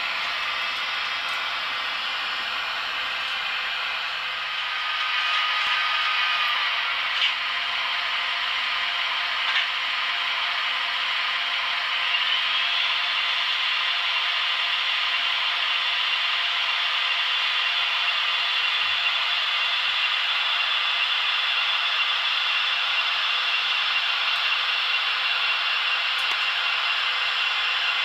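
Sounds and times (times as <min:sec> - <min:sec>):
electric locomotive traction motors rushing: 0:00.0 - 0:28.0.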